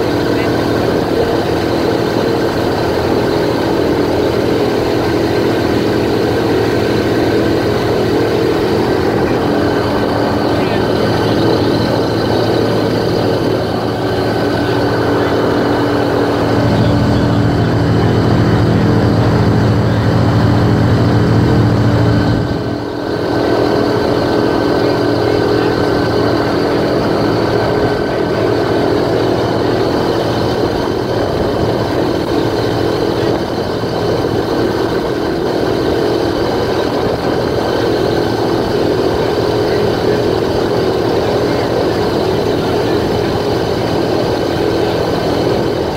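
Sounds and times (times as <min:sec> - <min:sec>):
airboat engine and propeller: 0:00.0 - 0:45.9.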